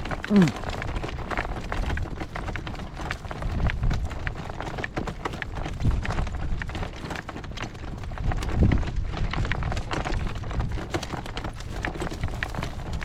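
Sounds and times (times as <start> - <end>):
hoofbeats on dry ground: 0.0 - 13.0
wind buffeting microphone: 0.0 - 13.0.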